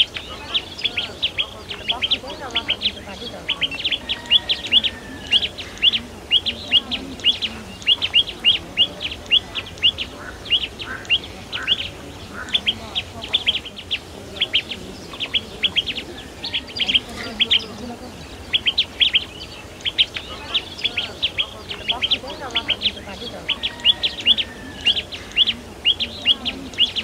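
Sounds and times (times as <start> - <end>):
lower bird call notes: 0.0 - 27.0
small birds chirping: 0.0 - 27.0.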